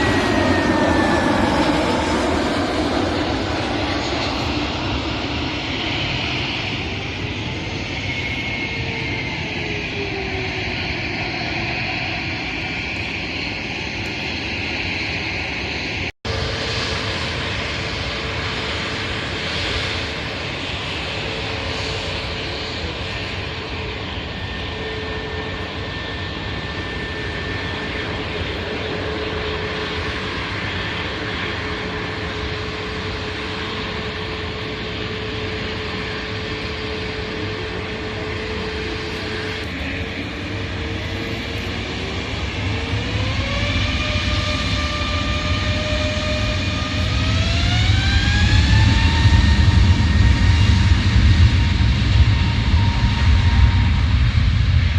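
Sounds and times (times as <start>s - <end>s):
jet engines running: 0.0s - 54.9s.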